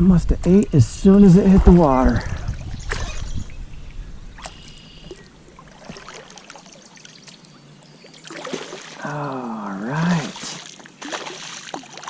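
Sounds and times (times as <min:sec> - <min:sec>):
water lapping at a kayak: 0:01.6 - 0:12.0.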